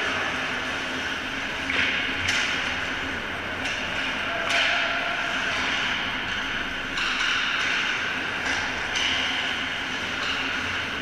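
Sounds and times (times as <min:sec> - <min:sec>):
rink background noise: 0:00.0 - 0:11.0.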